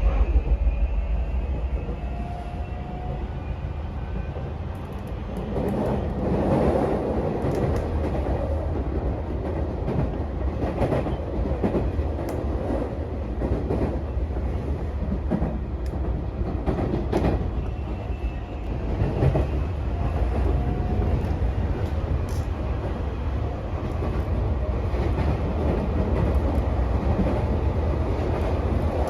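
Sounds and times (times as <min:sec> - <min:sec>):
train wheels rumbling on rail: 0:00.0 - 0:29.0
rail joint clicks: 0:04.6 - 0:29.0.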